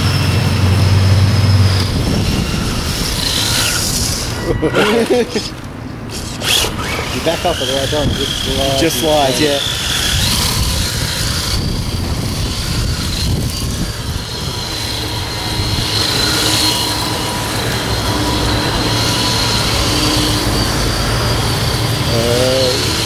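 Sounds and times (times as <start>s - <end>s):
radio-controlled car electric whine: 0.0s - 23.0s.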